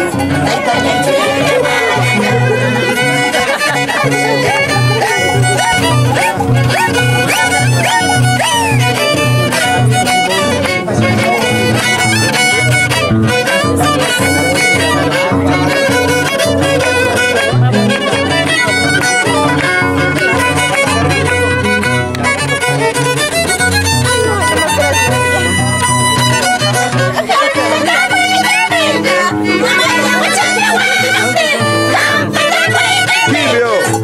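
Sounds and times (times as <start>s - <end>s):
violin melody: 0.0s - 34.0s.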